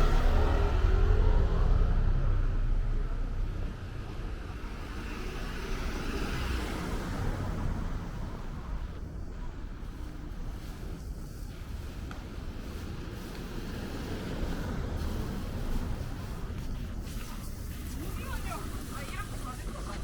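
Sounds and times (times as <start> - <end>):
street traffic noise: 0.0 - 20.0
vehicle passing by: 0.0 - 20.0.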